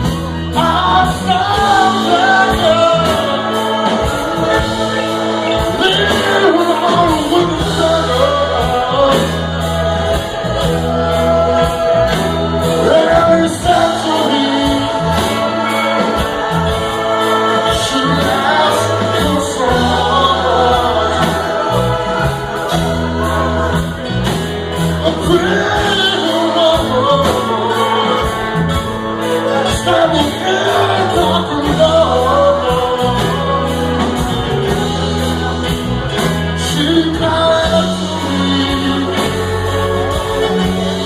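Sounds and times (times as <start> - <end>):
live rock-soul band playing: 0.0 - 41.0
low bass notes: 0.0 - 41.0
people singing: 0.0 - 41.0.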